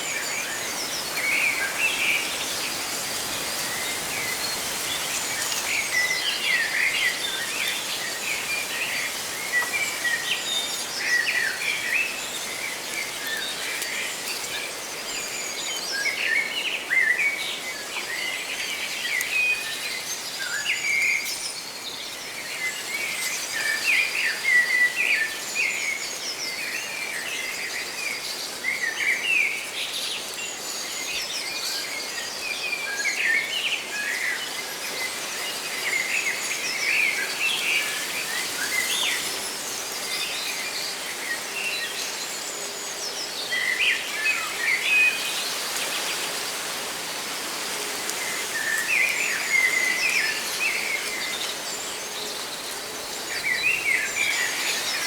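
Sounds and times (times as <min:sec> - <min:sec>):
leaves rustling in wind: 0:00.0 - 0:55.0.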